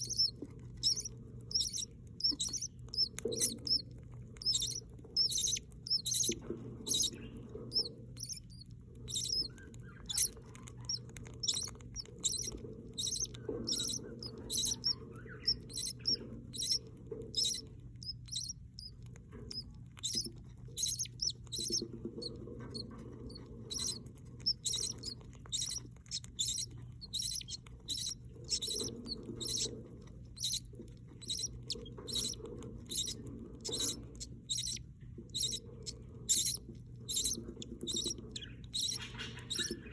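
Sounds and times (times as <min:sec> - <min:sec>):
budgie chicks peeping: 0:00.0 - 0:39.9
steady low hum: 0:00.0 - 0:39.9.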